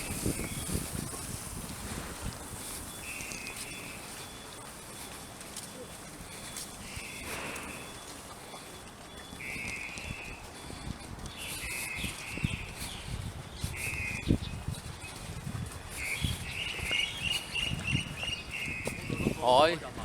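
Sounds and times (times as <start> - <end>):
birds calling and chirping: 0.0 - 5.0, 5.8 - 19.7.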